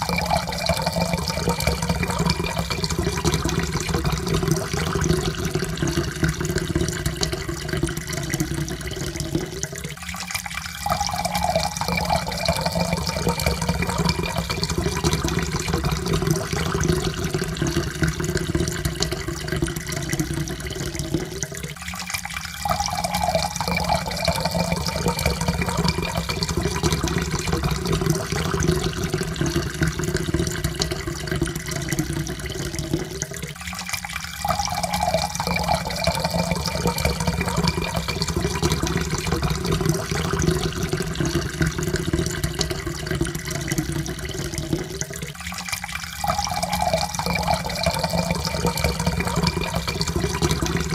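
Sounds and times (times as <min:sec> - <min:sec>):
water pouring into a cup: 0:00.0 - 0:50.9.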